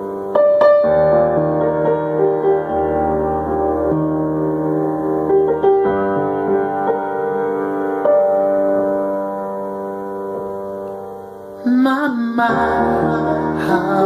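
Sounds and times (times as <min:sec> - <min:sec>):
keyboard playing slow chords: 0:00.0 - 0:14.0.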